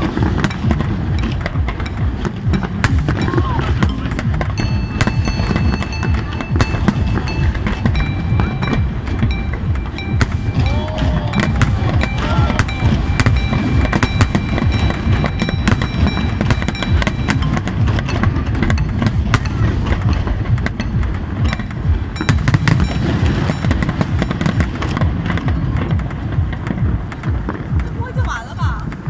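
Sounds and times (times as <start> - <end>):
deep rumble of fireworks barrage: 0.0 - 29.0
fireworks crackling: 0.0 - 29.0
fireworks shells bursting: 0.0 - 29.0.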